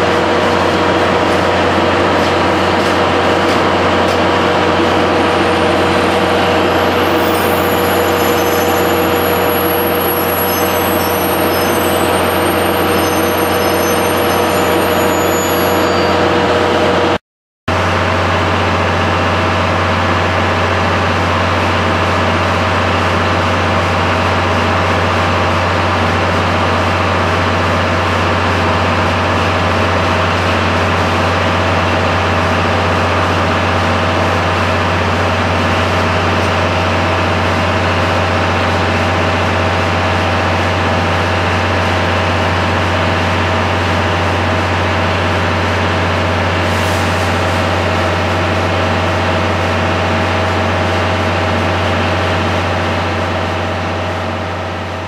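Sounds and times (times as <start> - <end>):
diesel locomotive idling: 0.0 - 55.0.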